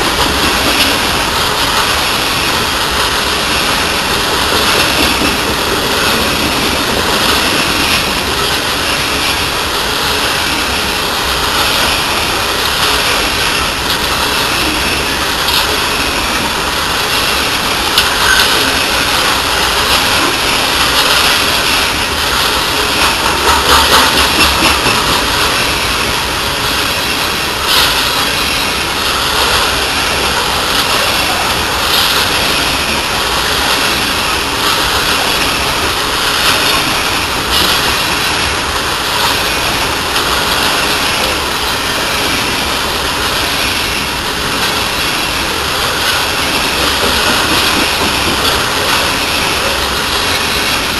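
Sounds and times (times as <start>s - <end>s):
steel wheels rolling on rail: 0.0s - 50.9s
wheel clacks: 0.0s - 50.9s.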